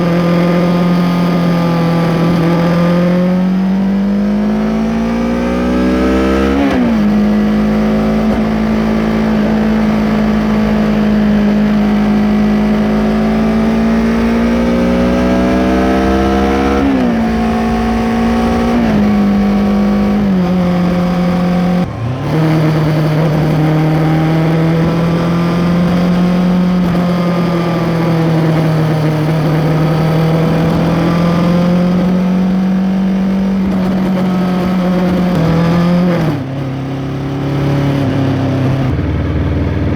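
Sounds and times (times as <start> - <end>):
motorcycle engine running: 3.5 - 39.9.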